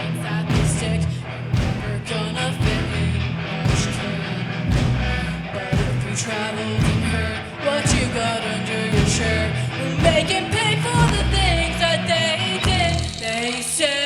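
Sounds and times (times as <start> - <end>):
rock band playing live: 0.0 - 13.4
person singing lead vocal: 0.0 - 14.0.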